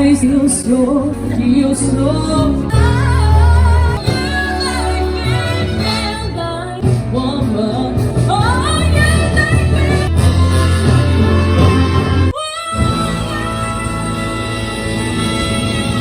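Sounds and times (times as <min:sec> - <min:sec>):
steady bass line: 0:00.0 - 0:16.0
woman singing: 0:00.0 - 0:16.0.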